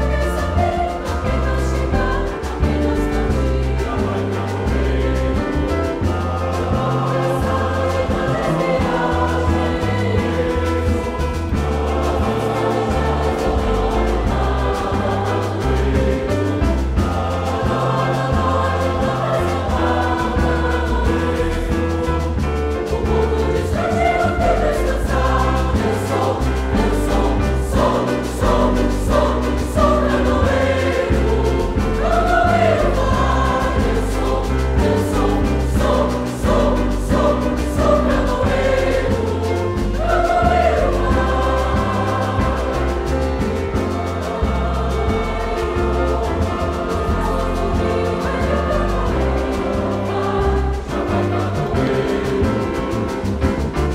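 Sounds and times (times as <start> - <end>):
low instrumental accompaniment: 0.0 - 53.9
mixed choir singing: 0.0 - 53.9.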